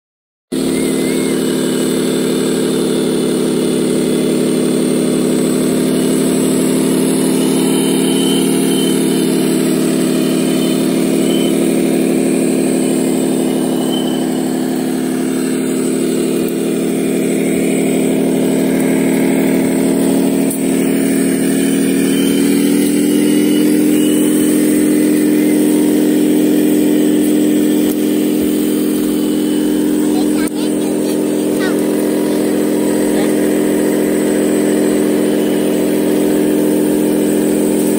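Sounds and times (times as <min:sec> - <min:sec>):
engine-like drone: 0:00.5 - 0:37.9.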